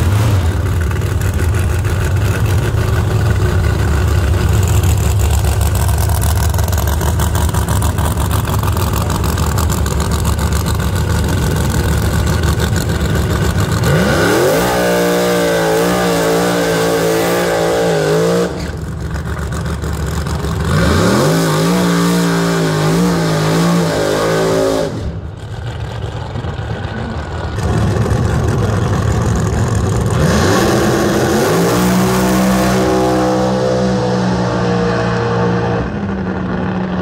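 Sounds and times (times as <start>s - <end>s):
racing car engines at high revs: 0.0s - 37.0s.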